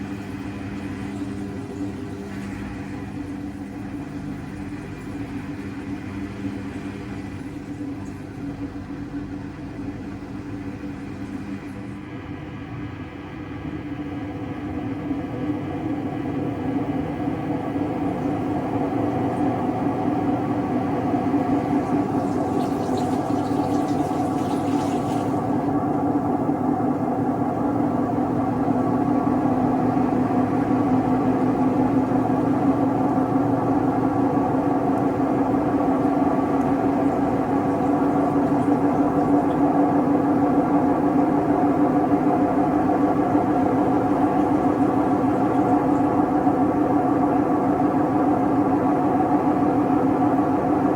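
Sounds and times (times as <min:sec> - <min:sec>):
washing machine droning hum: 0:00.0 - 0:50.9.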